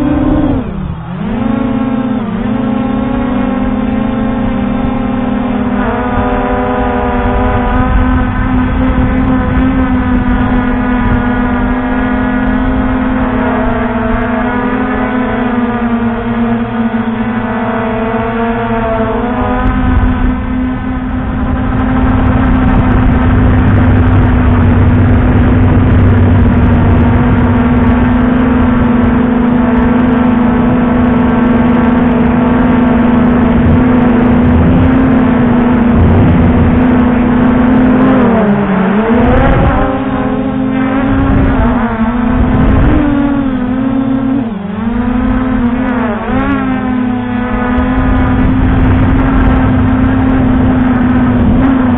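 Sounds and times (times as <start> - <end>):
drone motors whining: 0.0 - 51.9
low rumble: 0.0 - 51.9.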